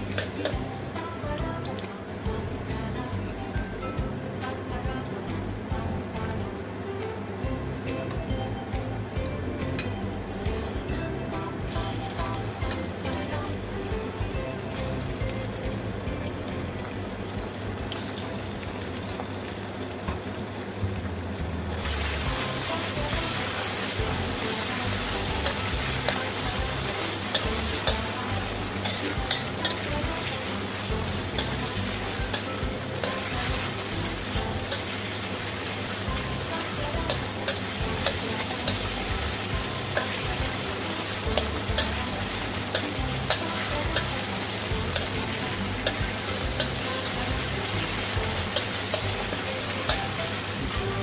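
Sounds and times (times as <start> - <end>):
food sizzling in hot oil: 0.0 - 51.0.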